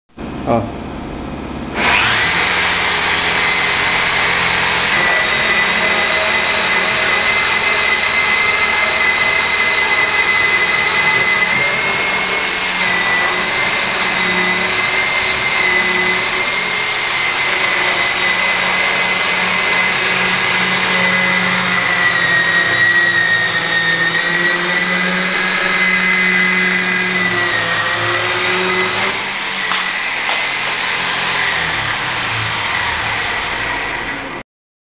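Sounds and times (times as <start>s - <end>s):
pipe cutting machine whining: 1.0s - 34.4s.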